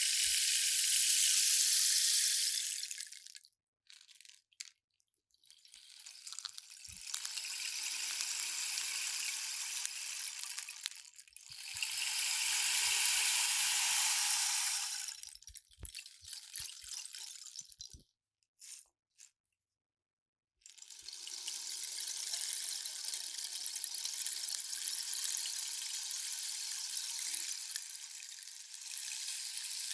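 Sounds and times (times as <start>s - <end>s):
rain stick pellets pouring: 0.0s - 4.8s, 5.6s - 18.0s, 20.8s - 29.9s.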